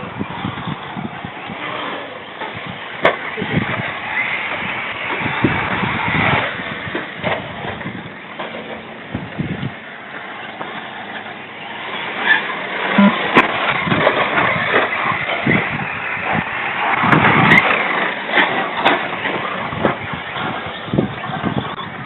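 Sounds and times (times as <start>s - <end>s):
remote-control car motors rumbling: 0.0s - 22.0s.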